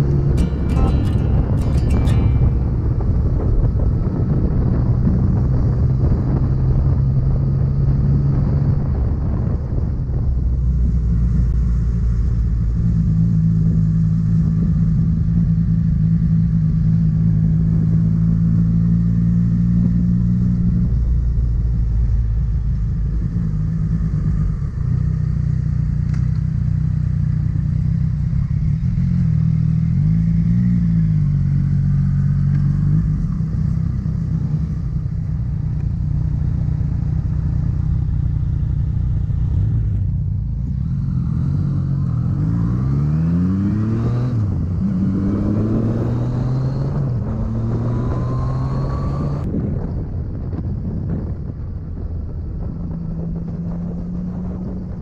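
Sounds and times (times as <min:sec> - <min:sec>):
motorcycle engine revving: 0:00.0 - 0:09.6, 0:10.6 - 0:50.0.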